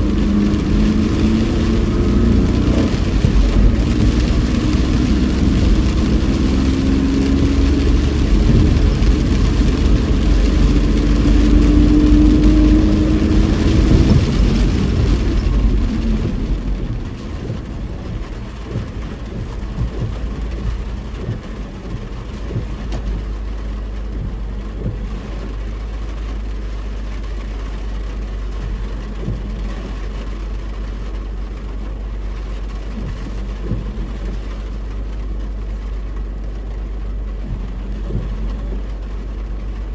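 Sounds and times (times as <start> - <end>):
car engine and tyre noise: 0.0 - 39.9
heavy rain rushing: 0.0 - 39.9.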